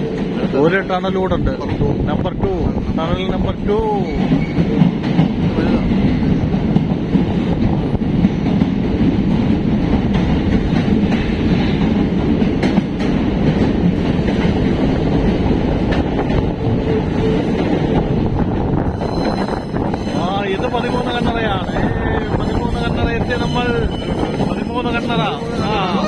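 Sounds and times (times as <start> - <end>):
train rumbling: 0.0 - 26.0
train wheels clacking: 3.3 - 26.0.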